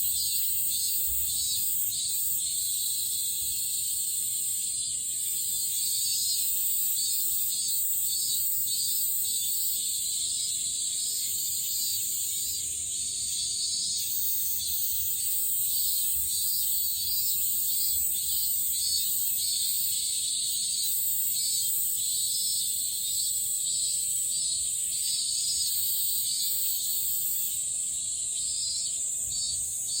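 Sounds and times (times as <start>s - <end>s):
cicadas calling: 0.0s - 30.0s.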